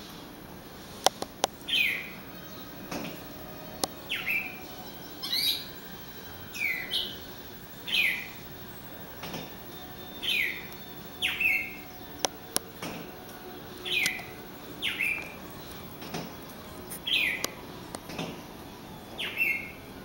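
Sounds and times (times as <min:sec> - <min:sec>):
songbird whistled notes: 0:01.4 - 0:19.9.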